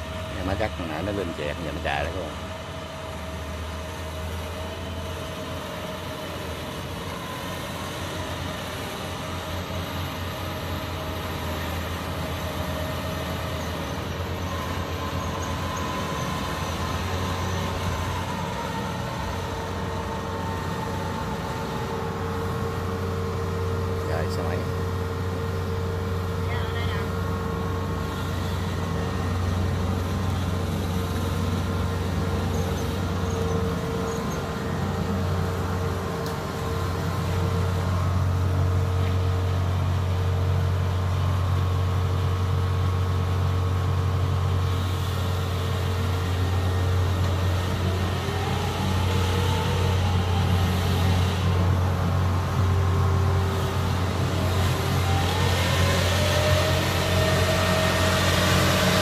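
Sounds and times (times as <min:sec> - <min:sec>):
diesel engine running: 0:00.0 - 0:59.0
rising whine: 0:00.0 - 0:59.0.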